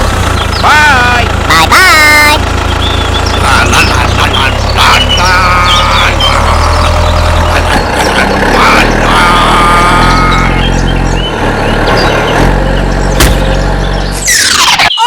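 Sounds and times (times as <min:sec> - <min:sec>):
vehicle engine droning: 0:00.0 - 0:14.7.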